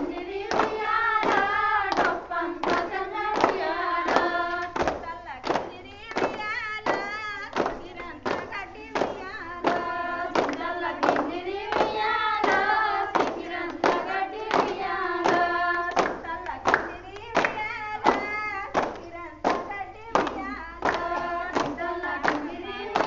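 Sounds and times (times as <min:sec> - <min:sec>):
hands clapping in unison: 0:00.0 - 0:23.0
women singing folk song: 0:00.0 - 0:23.0.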